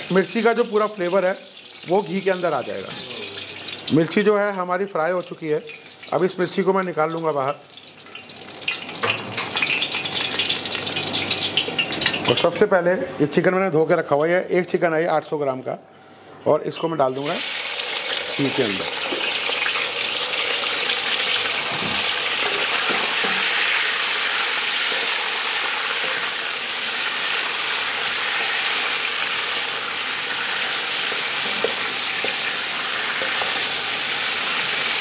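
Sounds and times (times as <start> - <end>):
chicken sizzling in oil: 0.0 - 12.4, 17.2 - 35.0.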